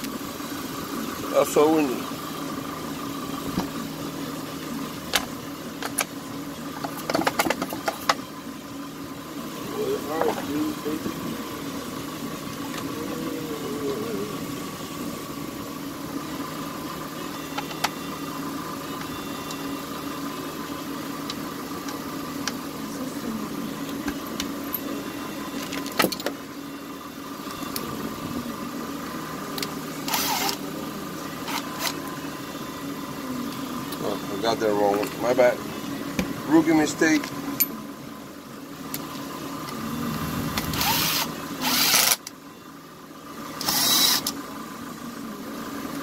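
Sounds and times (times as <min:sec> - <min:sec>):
steady mechanical hum: 0:00.0 - 0:46.0.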